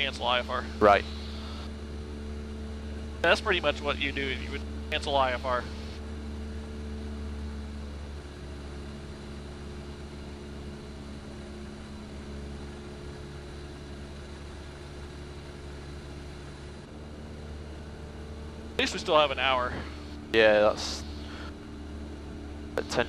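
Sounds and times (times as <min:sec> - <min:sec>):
propeller plane engine droning: 0:00.0 - 0:23.0.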